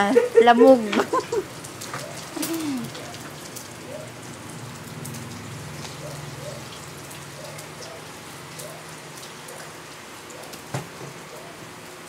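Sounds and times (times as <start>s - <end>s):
food sizzling in a wok: 0.9s - 12.0s.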